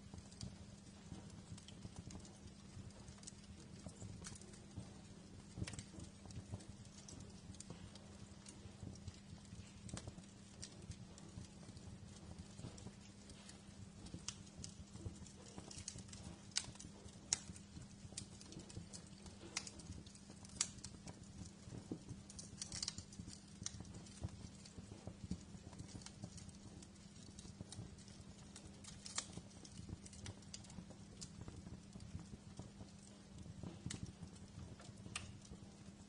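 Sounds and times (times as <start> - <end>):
fire crackling: 0.0 - 36.0
steady low hum: 0.0 - 36.0.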